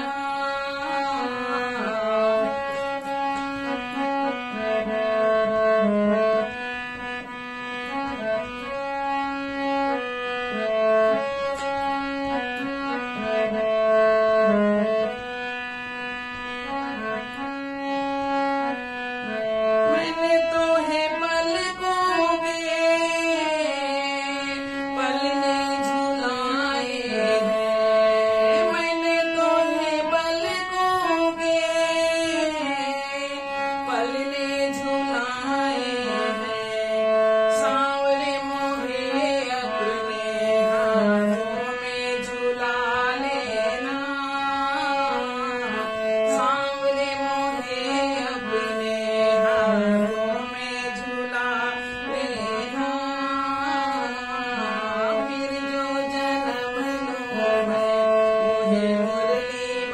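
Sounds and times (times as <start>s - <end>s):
harmonium holding notes: 0.0s - 59.9s
woman singing devotional song: 0.0s - 59.9s.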